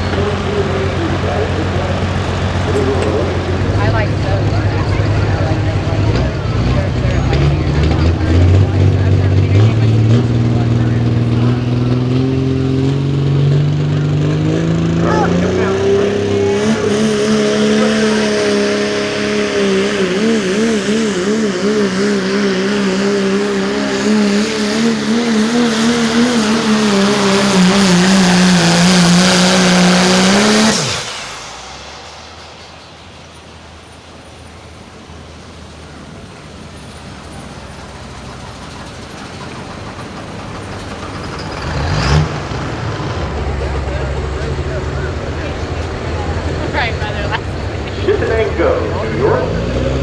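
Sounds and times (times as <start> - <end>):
diesel truck engine at full throttle: 0.0 - 50.0.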